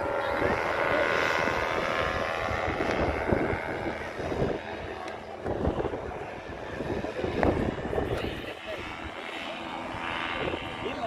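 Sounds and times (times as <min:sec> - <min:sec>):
paramotor engine and propeller: 0:00.0 - 0:11.0
wind buffeting microphone: 0:00.0 - 0:11.0.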